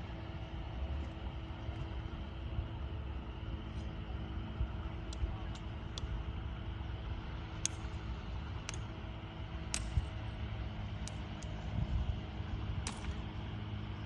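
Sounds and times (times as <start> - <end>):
distant outboard motor: 0.0 - 14.0
wind rumble on microphone: 0.0 - 14.0.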